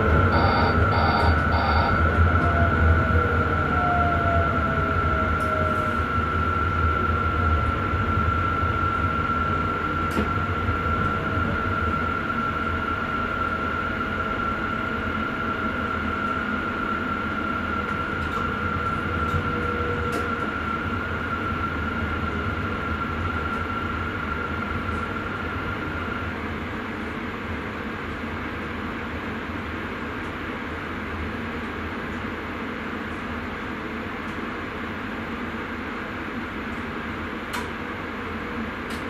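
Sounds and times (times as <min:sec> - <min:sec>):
constant high whine: 0:00.0 - 0:39.0
train running rumble: 0:00.0 - 0:39.0.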